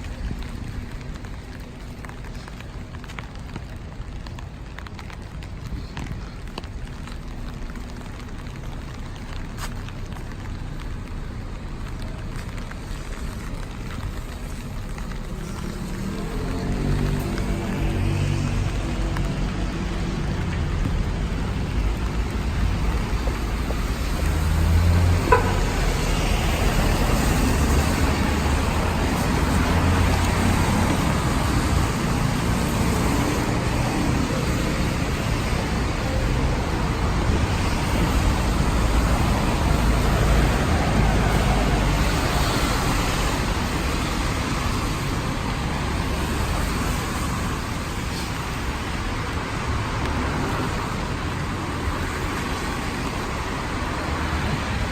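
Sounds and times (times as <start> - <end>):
steady rain hiss: 0.0 - 54.9
vehicles passing on wet street: 0.0 - 54.9.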